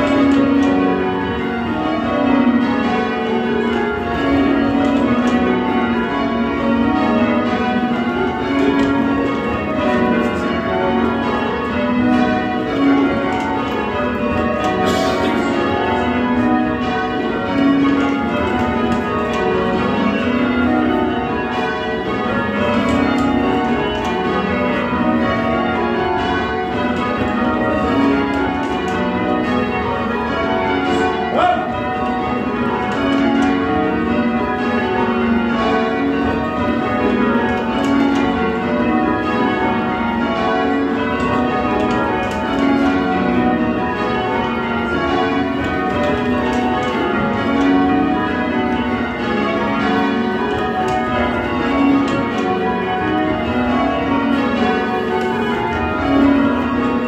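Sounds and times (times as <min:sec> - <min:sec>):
church bells change ringing: 0:00.0 - 0:57.0.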